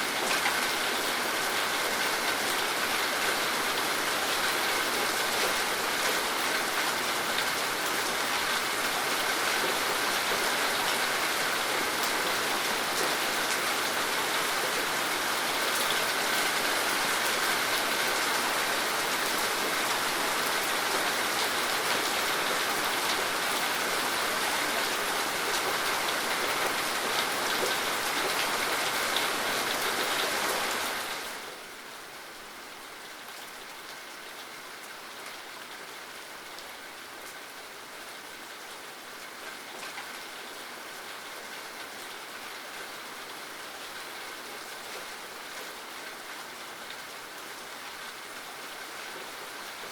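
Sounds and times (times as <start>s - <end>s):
dense rainfall: 0.0s - 49.9s.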